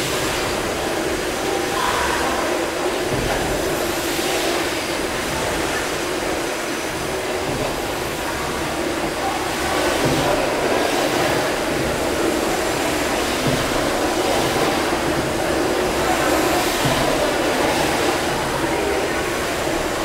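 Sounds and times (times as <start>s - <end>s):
steam engines mechanical din: 0.0s - 20.0s
steam hissing: 0.0s - 20.0s.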